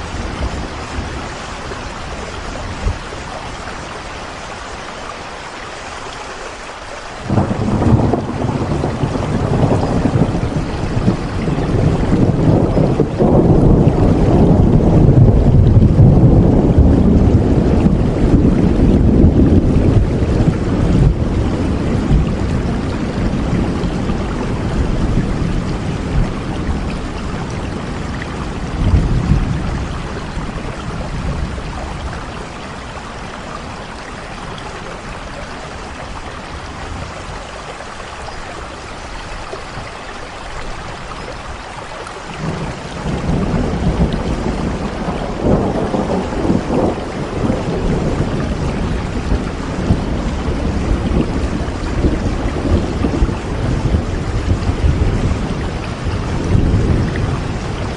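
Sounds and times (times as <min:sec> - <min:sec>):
low rolling thunder: 0:00.0 - 0:03.9, 0:07.2 - 0:37.7, 0:42.3 - 0:57.9
steady rain: 0:00.0 - 0:57.9.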